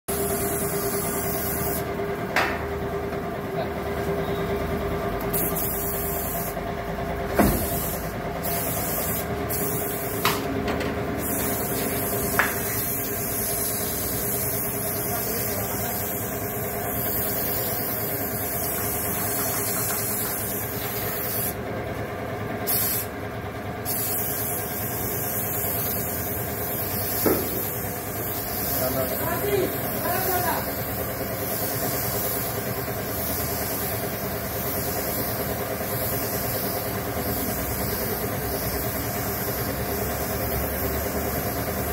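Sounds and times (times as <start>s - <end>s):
spray gun hissing: 0.1s - 1.9s, 5.3s - 6.6s, 7.4s - 10.4s, 11.2s - 21.6s, 22.6s - 23.1s, 23.8s - 41.9s
mechanical hum: 0.1s - 41.9s.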